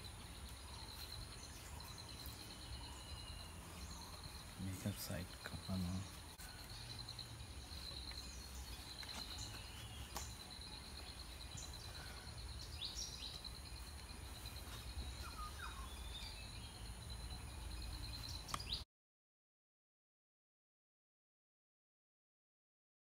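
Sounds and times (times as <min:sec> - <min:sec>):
high insect trill: 0:00.0 - 0:18.8.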